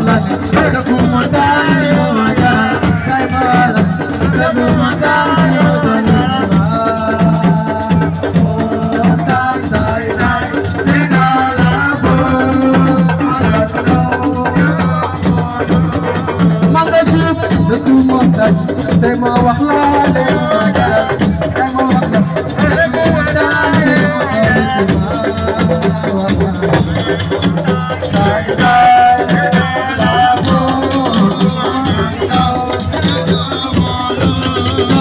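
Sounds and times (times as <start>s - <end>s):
percussion beat: 0.0s - 35.0s.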